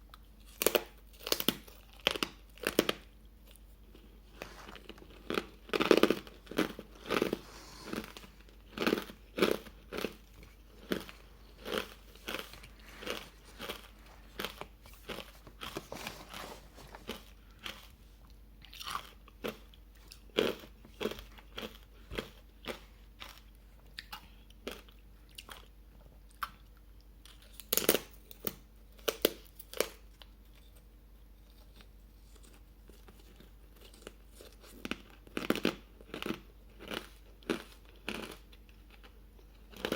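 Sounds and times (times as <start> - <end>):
crunching and chewing ice: 0.1 - 39.9.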